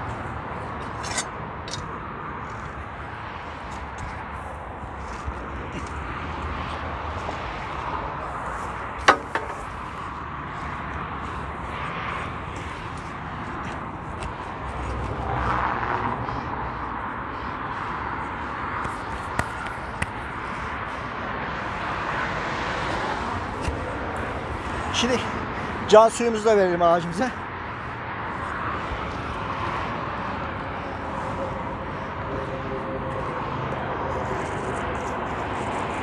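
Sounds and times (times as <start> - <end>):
road traffic noise: 0.0 - 36.0
vehicle passing: 0.0 - 36.0.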